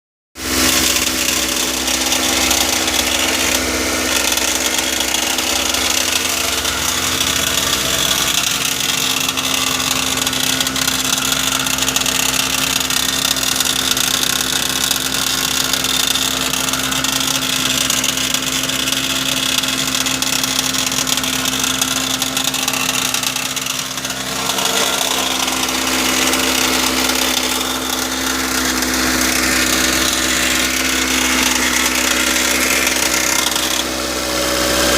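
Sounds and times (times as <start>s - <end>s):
car engine mechanical whirring: 0.4s - 34.9s.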